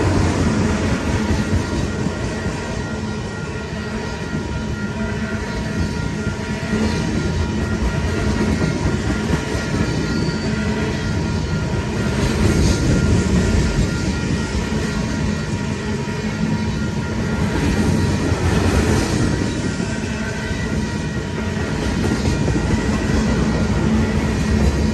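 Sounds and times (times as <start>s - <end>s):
freight train wheels on rails: 0.0s - 24.9s.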